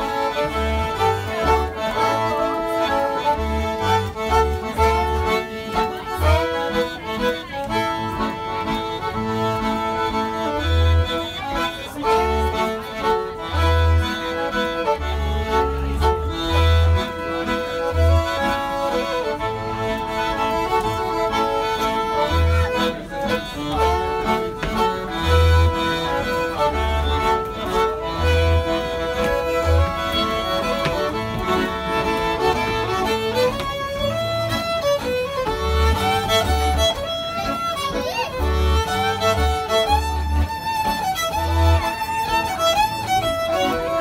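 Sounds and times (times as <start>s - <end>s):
accordion bass notes: 0.0s - 44.0s
fiddle playing melody: 0.0s - 44.0s.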